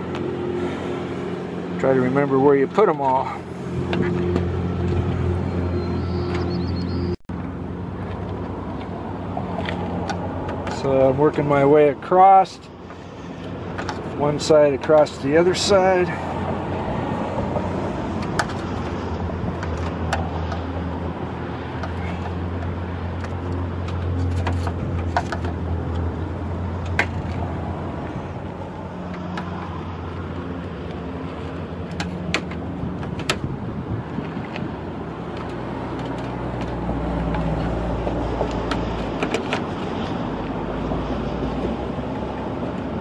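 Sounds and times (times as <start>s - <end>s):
vehicle traffic rumble: 0.0s - 43.0s.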